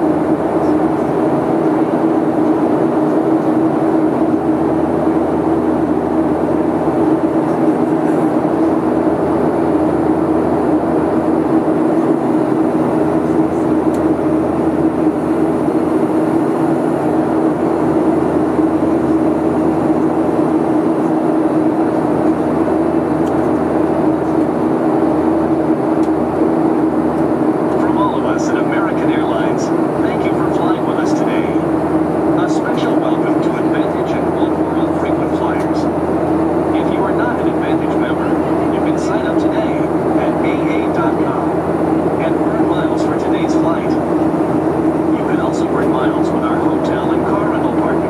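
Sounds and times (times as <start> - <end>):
jet engine and airflow rush: 0.0 - 48.0.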